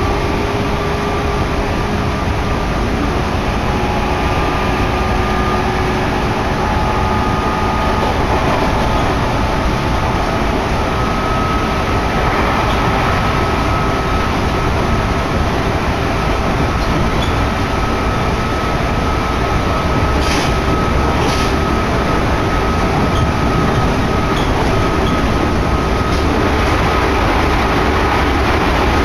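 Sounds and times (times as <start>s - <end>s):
train running gear rumble: 0.0s - 29.0s.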